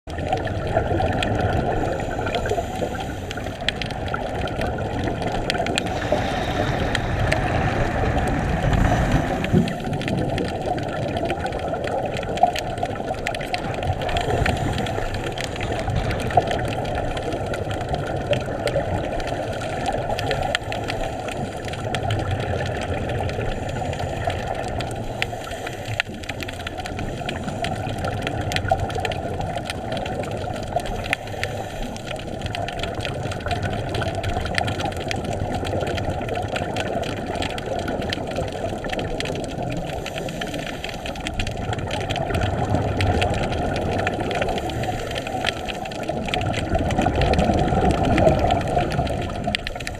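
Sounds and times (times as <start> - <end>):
faint underwater clicks and crackles: 0.0 - 49.9
low underwater rumble: 0.1 - 49.9.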